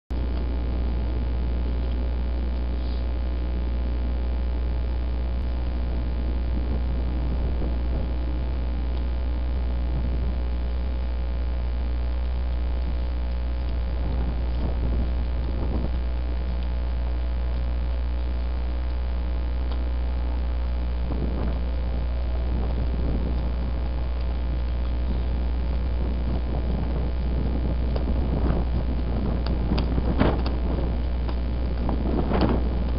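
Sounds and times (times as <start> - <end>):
electrical hum with buzz: 0.1 - 32.9.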